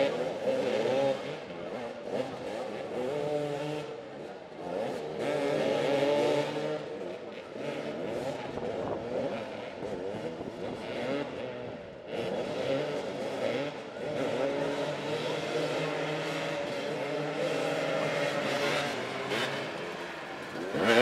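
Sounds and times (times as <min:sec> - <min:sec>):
motorcycles revving: 0:00.0 - 0:21.0.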